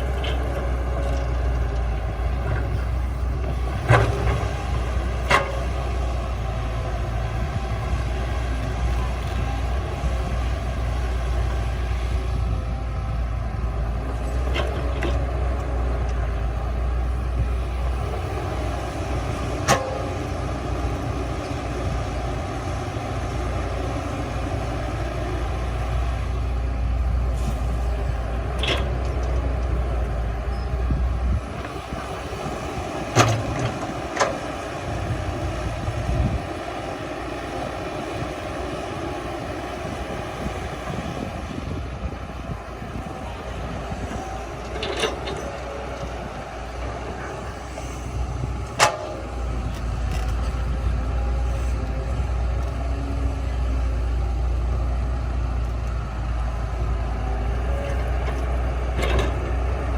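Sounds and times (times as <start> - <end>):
heavy machinery rumbling: 0.0 - 59.9.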